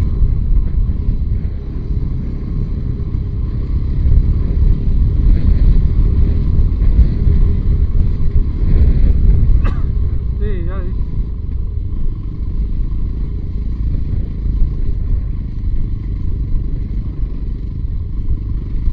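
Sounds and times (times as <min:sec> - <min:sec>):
motorcycle engine at speed: 0:00.0 - 0:18.9
wind rumble on microphone: 0:00.0 - 0:18.9.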